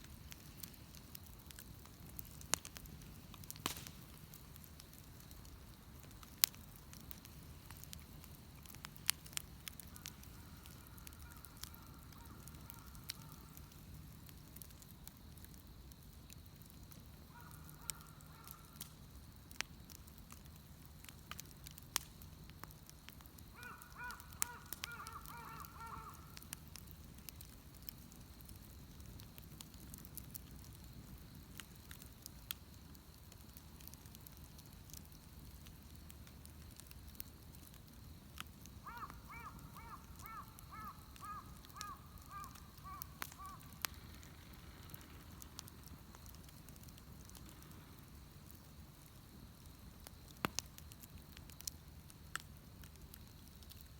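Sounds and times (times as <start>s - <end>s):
bonfire crackling and popping: 0.0s - 53.9s.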